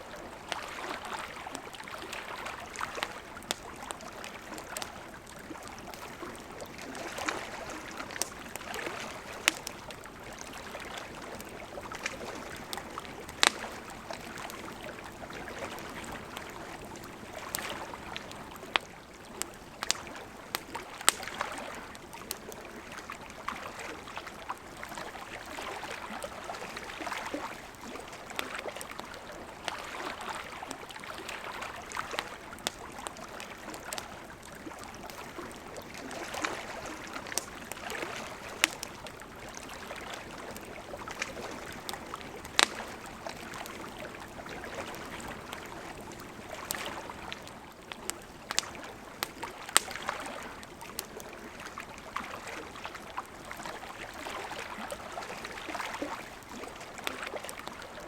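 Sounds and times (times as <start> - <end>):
lake waves lapping: 0.0 - 58.0
campfire crackling: 0.1 - 58.0.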